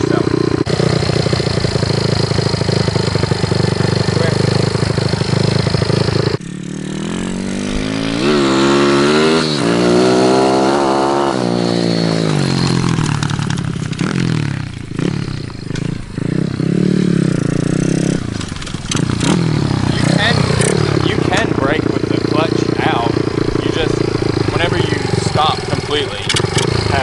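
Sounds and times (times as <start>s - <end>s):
small motorbike engine revving: 0.0s - 27.0s.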